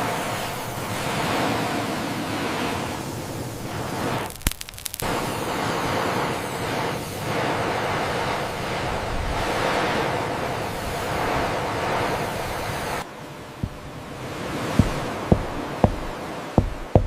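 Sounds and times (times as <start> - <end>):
sea surf: 0.0 - 17.0
wind: 0.0 - 17.0.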